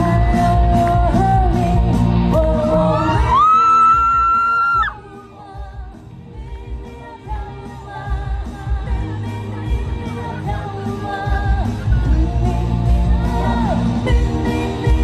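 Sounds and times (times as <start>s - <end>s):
pop music with steady beat: 0.0s - 15.0s.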